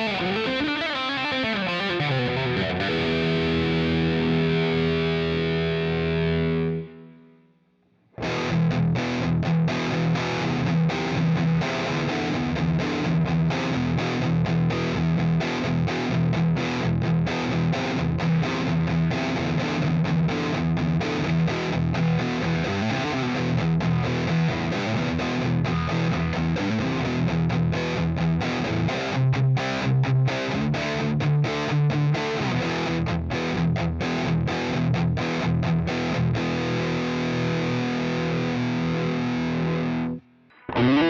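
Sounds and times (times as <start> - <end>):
chugging guitar riff: 0.0 - 41.0
distorted electric guitar chord: 0.0 - 41.0.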